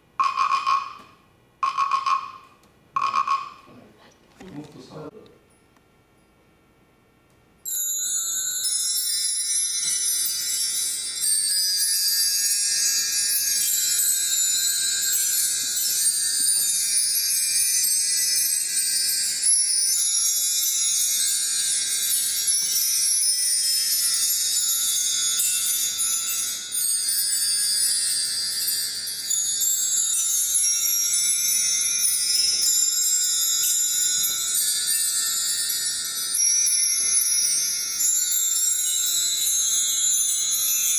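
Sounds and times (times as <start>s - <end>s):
small chimes tinkling: 7.6s - 40.9s.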